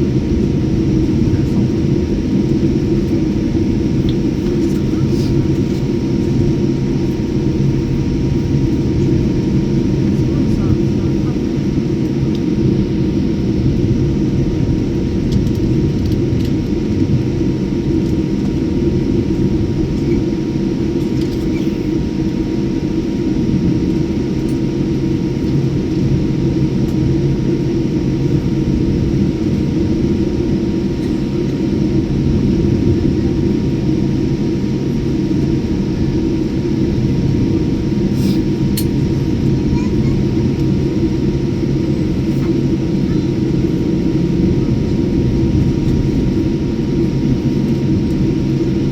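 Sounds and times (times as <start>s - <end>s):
airliner engine rumble: 0.0s - 48.9s
faint steady hums: 0.0s - 48.9s.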